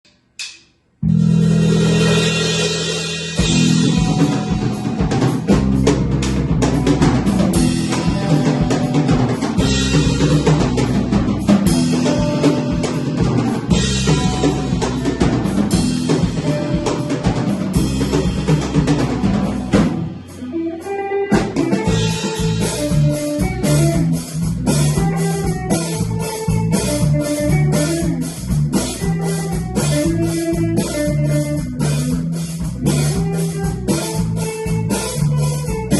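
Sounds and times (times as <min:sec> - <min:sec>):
drum kit: 0:00.1 - 0:35.9
bass guitar: 0:01.0 - 0:35.9
guitar: 0:01.0 - 0:35.9.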